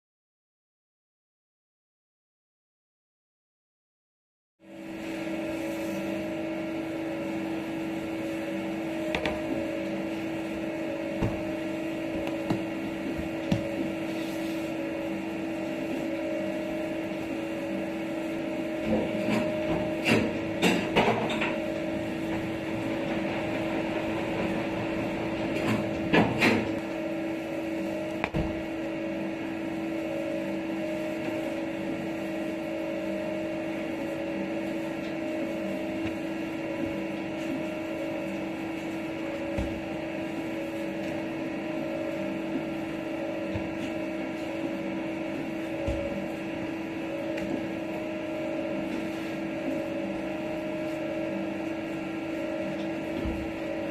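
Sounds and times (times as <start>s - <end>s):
electric machine hum: 4.6s - 53.9s.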